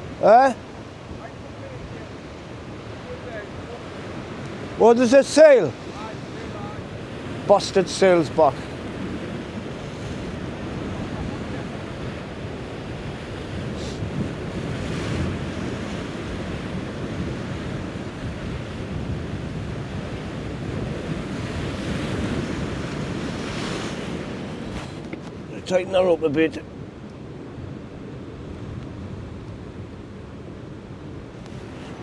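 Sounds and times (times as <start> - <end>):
waves washing on rocky shore: 0.0 - 32.0
wind buffeting microphone: 0.0 - 32.0.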